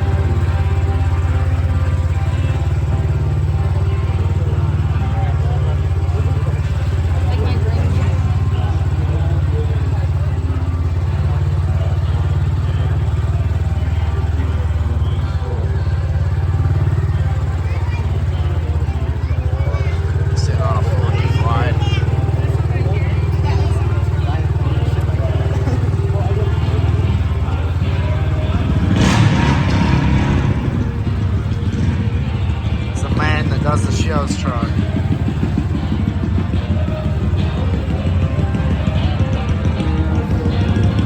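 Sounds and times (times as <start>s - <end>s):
diesel truck engine running: 0.0s - 41.0s.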